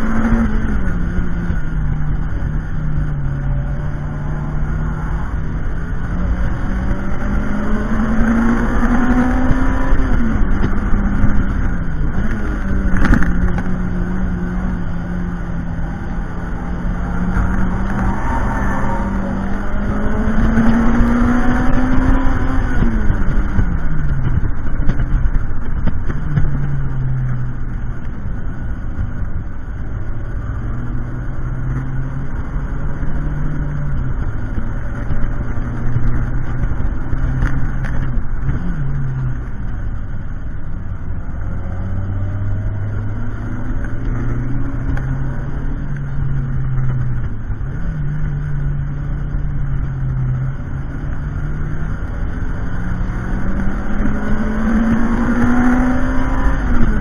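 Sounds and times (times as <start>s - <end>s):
car engine revving and shifting: 0.0s - 57.0s
wind rumble on microphone: 0.0s - 57.0s.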